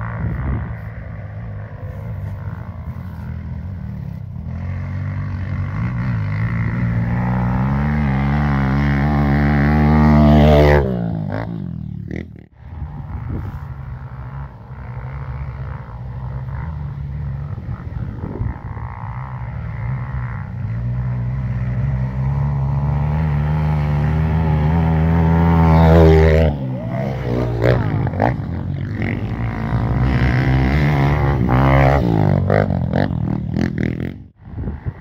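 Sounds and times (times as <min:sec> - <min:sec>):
dirt bike engine revving: 0:00.0 - 0:34.5.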